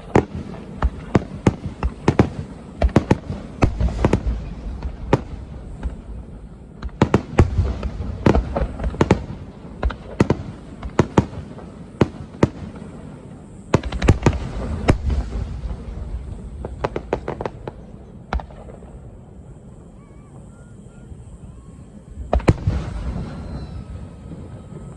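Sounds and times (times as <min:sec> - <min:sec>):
fireworks bangs with echoes: 0:00.0 - 0:24.9.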